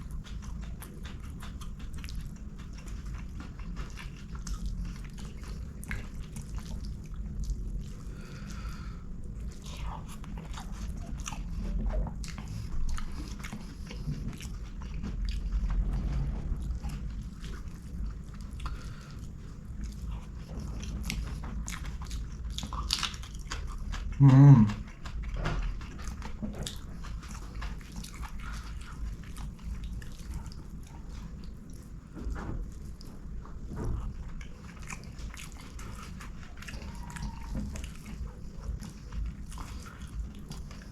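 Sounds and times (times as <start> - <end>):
close chewing and biting: 0.0 - 40.9.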